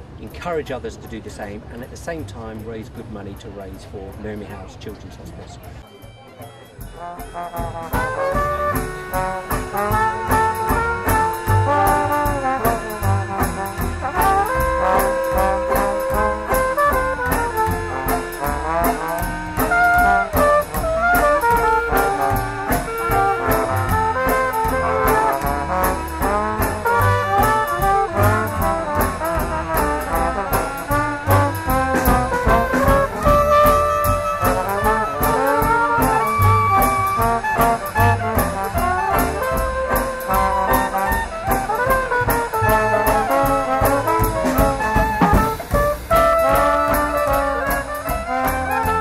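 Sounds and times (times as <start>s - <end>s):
jazz band playing: 0.0s - 49.0s.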